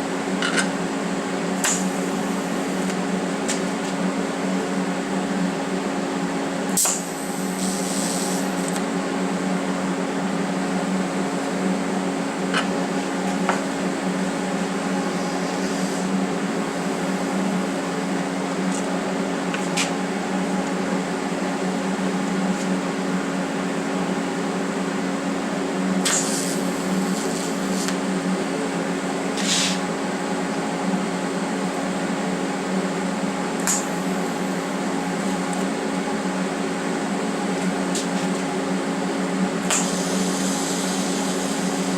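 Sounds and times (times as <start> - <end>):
cooling fan: 0.0 - 41.9
electrical hum of equipment: 0.0 - 41.9.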